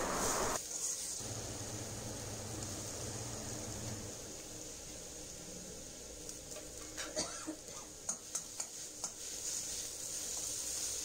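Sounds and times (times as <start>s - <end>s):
faint frying hiss: 0.0s - 11.0s.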